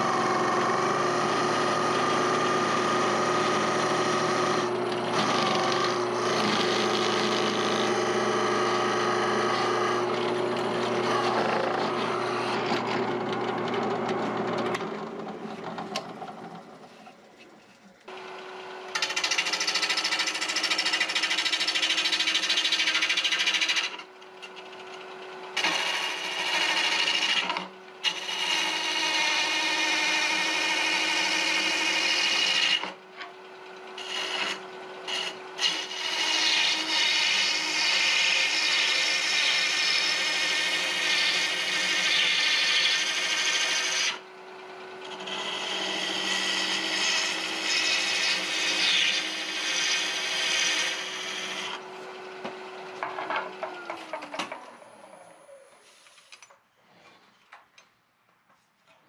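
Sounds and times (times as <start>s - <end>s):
lathe motor humming: 0.0s - 16.9s, 18.0s - 24.8s, 25.6s - 32.8s, 33.5s - 44.1s, 44.7s - 54.2s
lathe tool scraping wood: 0.0s - 33.0s, 33.9s - 44.2s, 45.0s - 54.8s.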